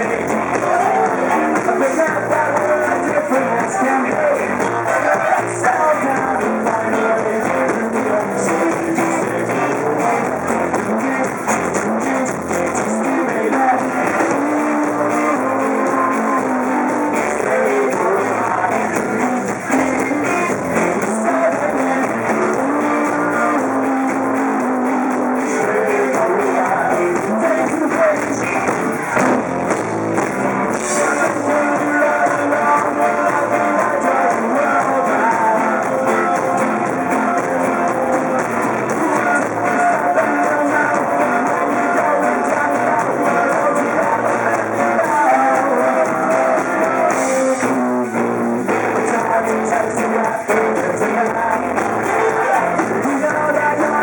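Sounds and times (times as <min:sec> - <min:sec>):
guitars: 0:00.0 - 0:54.0
live rock band: 0:00.0 - 0:54.0
person singing: 0:00.0 - 0:54.0.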